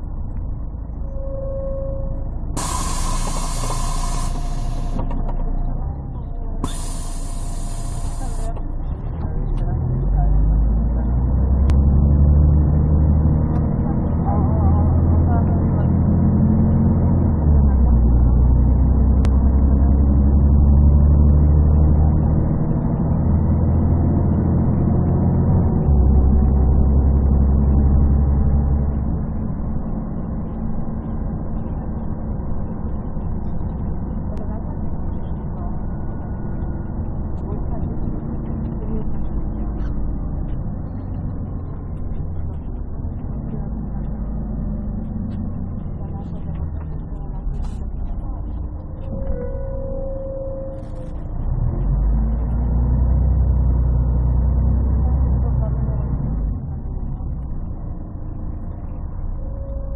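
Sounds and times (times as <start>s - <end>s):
bus engine running: 2.3s - 49.4s, 50.8s - 59.9s.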